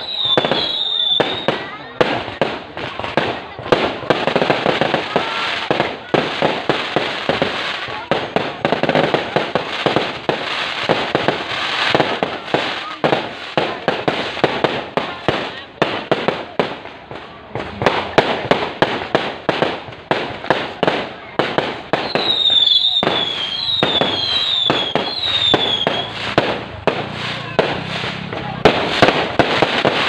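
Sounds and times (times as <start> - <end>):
fireworks banging and crackling: 0.0 - 30.0.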